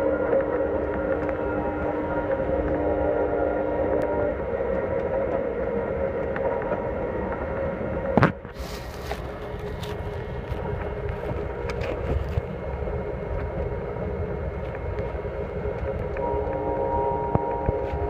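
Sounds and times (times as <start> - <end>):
faint steady hum: 0.0 - 18.0
train wheels rumbling on rails: 0.0 - 18.0.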